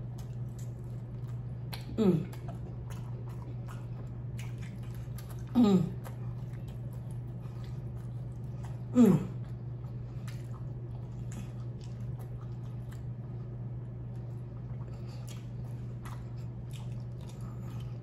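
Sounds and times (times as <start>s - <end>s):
chewing and gnawing: 0.0s - 18.0s
steady low hum: 0.0s - 18.0s.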